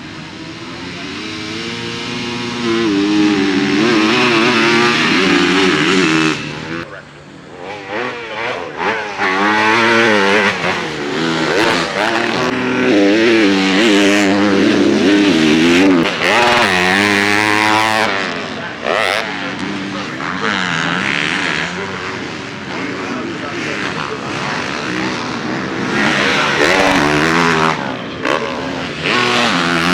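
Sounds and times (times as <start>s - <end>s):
motocross bike engines revving: 0.0s - 29.9s.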